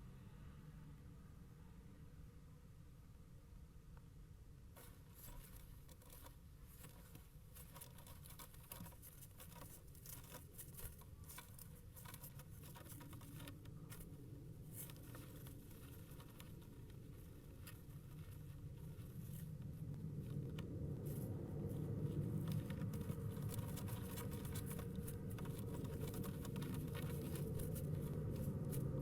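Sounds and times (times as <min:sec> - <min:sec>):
low steady hum: 0:00.0 - 0:29.0
scratching and tapping in nest box: 0:04.7 - 0:29.0.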